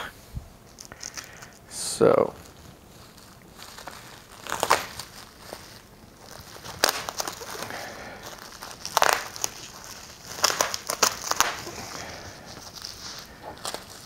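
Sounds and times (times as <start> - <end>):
bubble wrap crinkling: 0.6 - 14.0.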